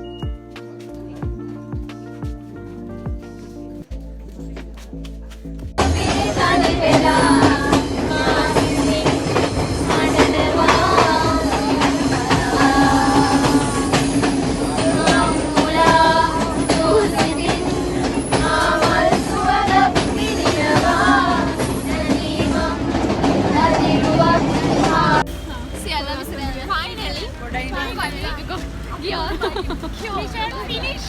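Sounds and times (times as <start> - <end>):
singing and music: 0.0 - 31.0
train wheels clattering on rails: 5.8 - 31.0.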